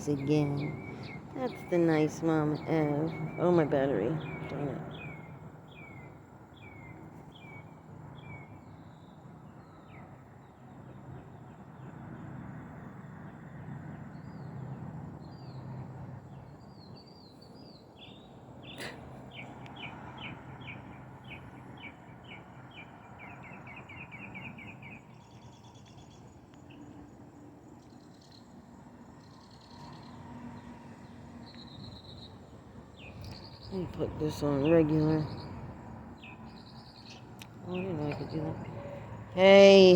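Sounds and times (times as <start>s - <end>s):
wild birds chirping: 0.0s - 13.1s, 13.9s - 39.9s
low outdoor rumble: 0.0s - 39.9s.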